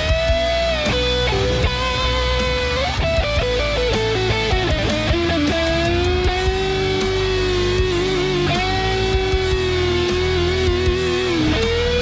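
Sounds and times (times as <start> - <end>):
electric guitar lead note: 0.0 - 12.0.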